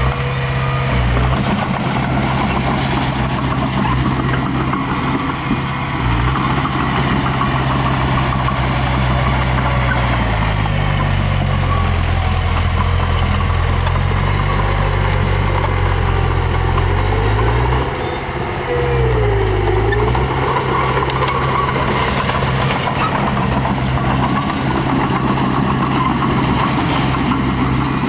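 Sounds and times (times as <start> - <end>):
diesel engine of earthmoving machine: 0.0 - 28.0.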